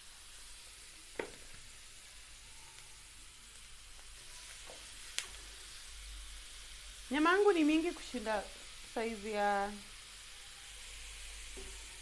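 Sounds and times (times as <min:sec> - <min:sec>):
meat sizzling on grill pan: 0:00.0 - 0:12.0.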